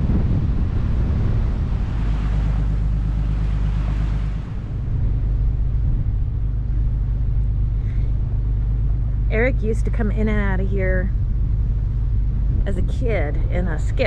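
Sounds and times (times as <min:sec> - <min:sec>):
diesel engine drone: 0:00.0 - 0:14.0
water noise: 0:00.0 - 0:14.0
wind noise: 0:00.0 - 0:14.0.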